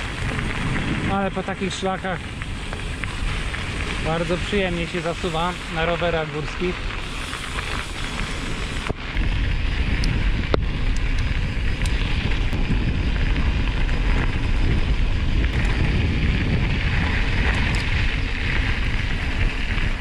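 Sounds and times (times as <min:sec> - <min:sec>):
sharp ticks: 0:00.0 - 0:20.0
tyres hissing on gravel: 0:00.0 - 0:20.0
wind buffeting microphone: 0:00.0 - 0:20.0.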